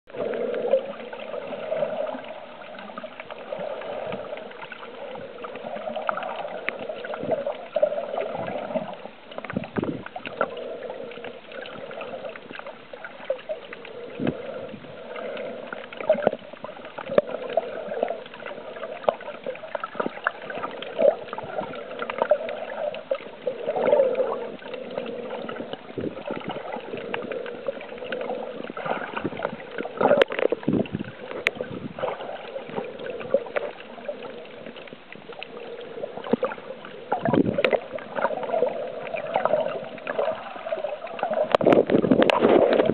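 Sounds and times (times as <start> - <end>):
underwater swishing and gurgling: 0.0 - 42.9
small underwater clicks and knocks: 0.1 - 42.9.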